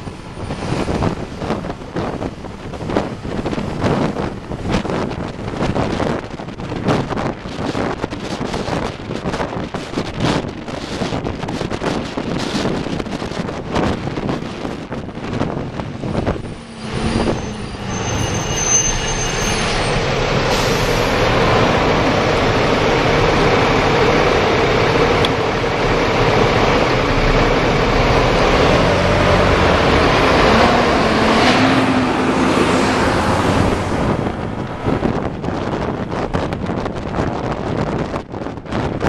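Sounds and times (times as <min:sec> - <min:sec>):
bus engine running: 0:00.0 - 0:39.0
road traffic noise: 0:00.0 - 0:39.0.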